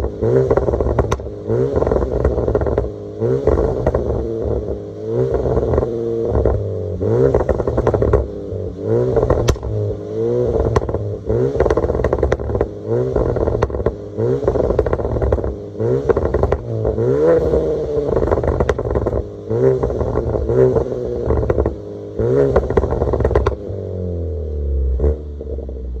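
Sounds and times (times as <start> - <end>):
exhaust crackling pops and bangs: 0.0 - 4.5, 5.3 - 6.6, 7.2 - 8.4, 9.1 - 9.9, 10.5 - 23.7
car engine idling: 0.0 - 26.0
car engine revving: 0.0 - 26.0.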